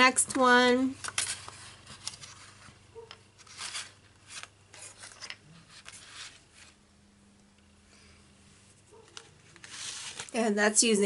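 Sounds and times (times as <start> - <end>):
paper cards rustling and scraping: 0.0 - 6.8, 8.5 - 10.5.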